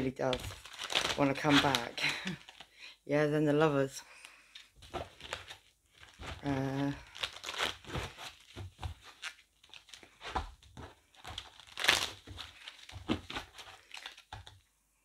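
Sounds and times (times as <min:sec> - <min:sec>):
cards rustling and shuffling: 0:00.0 - 0:02.7, 0:04.2 - 0:14.6.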